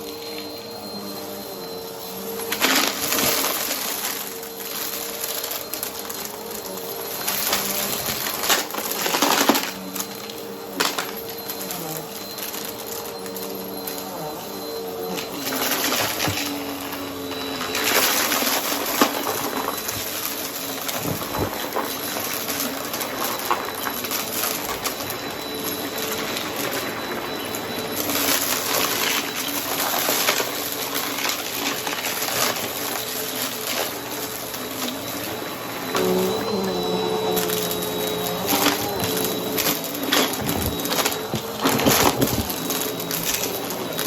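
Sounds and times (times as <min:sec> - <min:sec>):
vacuum cleaner motor whine: 0:00.0 - 0:44.0
debris crackling in vacuum: 0:01.7 - 0:44.0.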